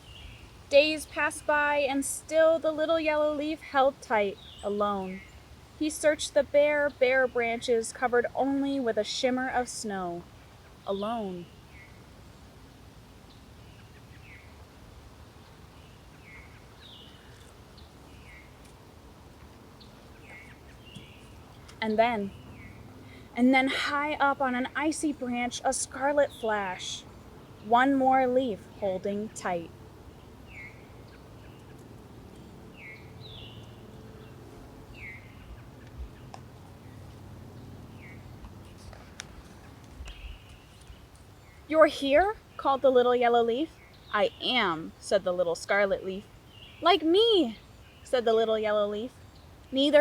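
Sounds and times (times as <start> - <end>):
bird chirping: 0.0 - 12.6, 15.3 - 18.8, 19.5 - 50.0.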